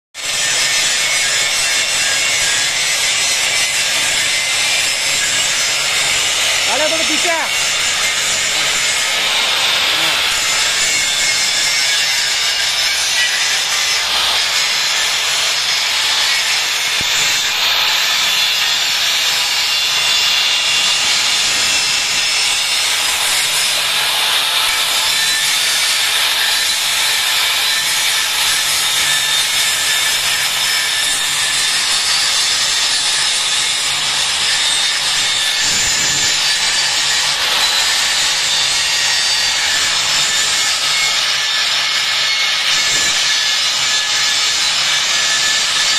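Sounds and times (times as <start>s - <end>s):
angle grinder grinding steel: 0.2s - 45.9s.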